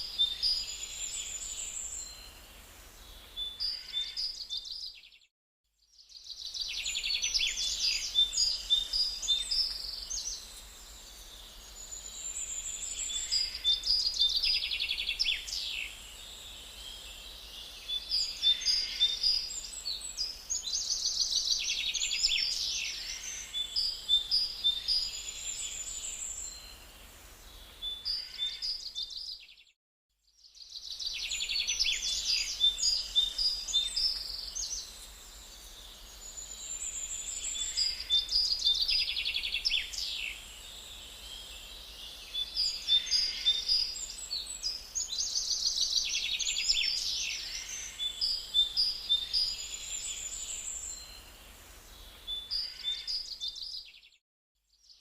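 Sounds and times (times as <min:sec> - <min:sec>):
songbirds singing and chirping: 0:00.0 - 0:05.3, 0:05.9 - 0:55.0.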